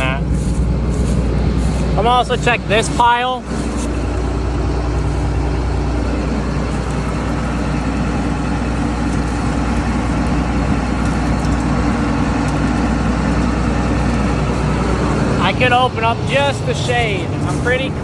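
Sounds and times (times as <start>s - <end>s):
combine harvester engine droning: 0.0s - 18.0s.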